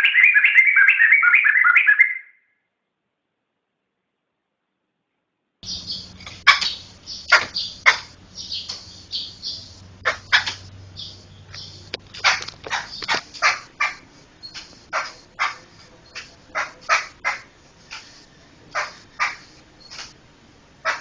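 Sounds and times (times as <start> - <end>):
bird harsh chattering calls: 0.0 - 2.4, 5.6 - 20.2.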